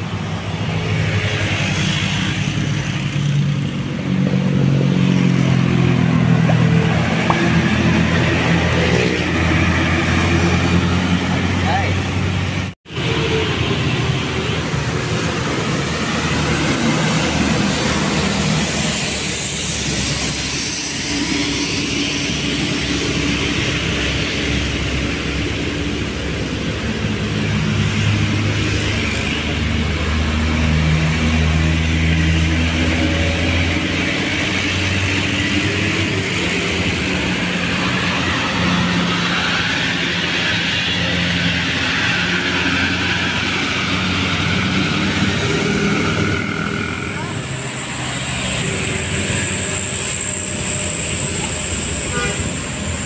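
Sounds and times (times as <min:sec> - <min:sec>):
heavy vehicle engine under load: 0:00.0 - 0:53.0
higher engine drone: 0:00.0 - 0:53.0.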